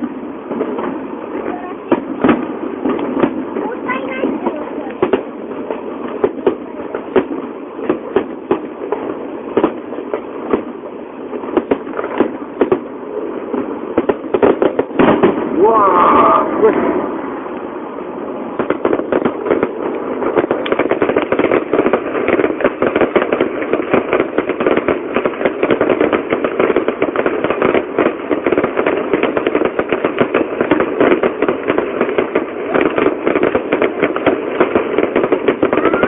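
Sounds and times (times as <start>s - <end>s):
fireworks popping and crackling: 0.0s - 36.0s.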